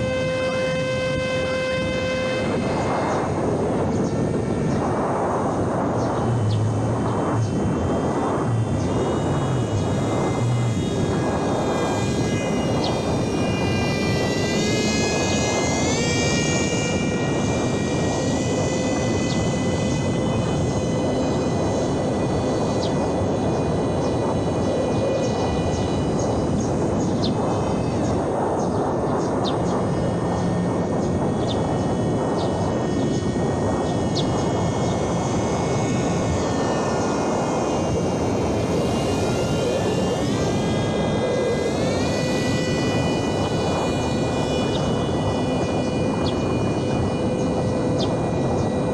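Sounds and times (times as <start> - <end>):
constant wash of noise: 0.0 - 48.9
rc plane motor whining: 0.0 - 48.9.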